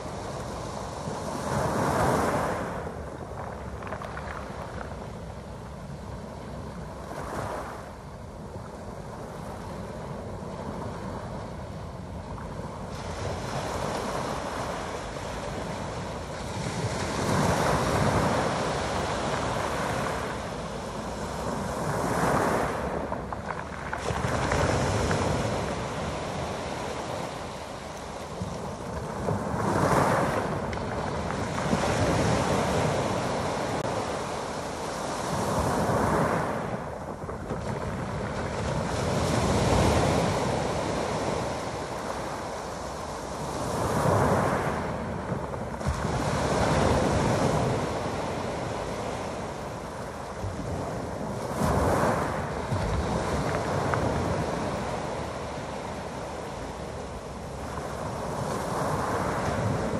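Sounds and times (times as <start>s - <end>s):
waves washing over pebble beach: 0.0s - 7.8s, 8.5s - 59.9s.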